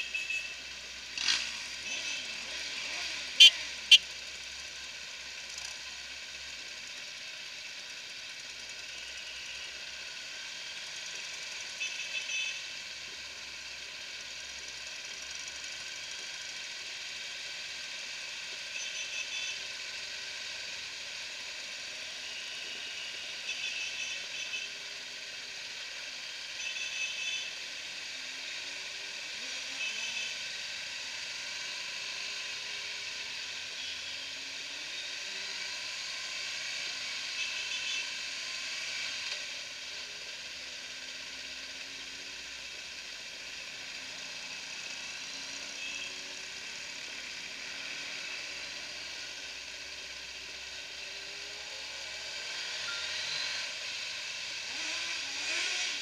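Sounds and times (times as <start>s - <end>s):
motorcycle engines: 0.0s - 56.0s.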